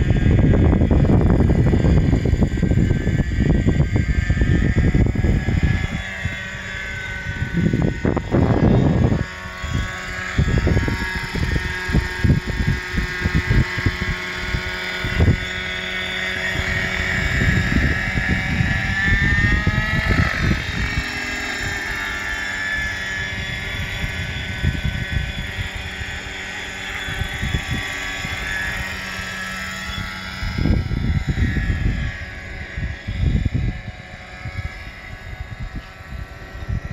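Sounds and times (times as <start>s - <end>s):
model helicopter engine whine: 0.0s - 36.9s
wind rumbling on microphone: 0.0s - 36.9s.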